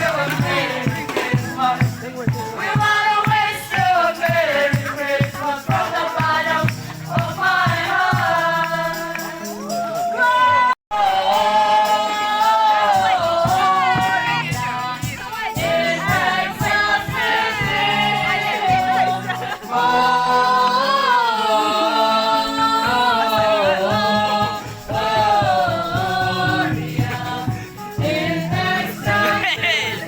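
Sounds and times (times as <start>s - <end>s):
instrumental backing music: 0.0s - 10.2s, 11.5s - 30.0s
voices singing slow song: 0.0s - 30.0s.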